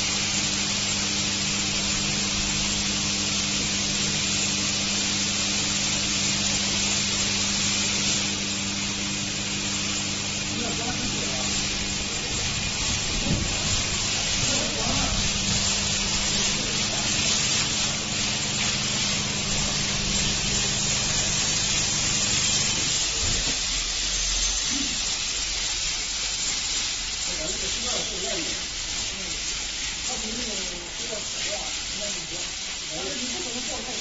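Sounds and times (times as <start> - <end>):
steady machine hum: 0.0 - 33.7
high-pressure water spraying: 0.0 - 34.0.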